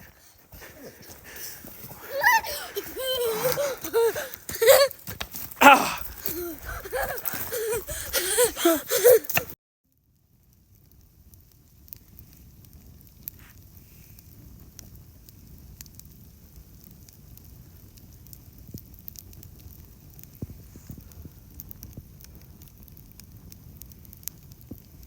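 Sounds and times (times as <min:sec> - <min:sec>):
campfire crackling and popping: 0:00.0 - 0:08.2, 0:10.4 - 0:25.0.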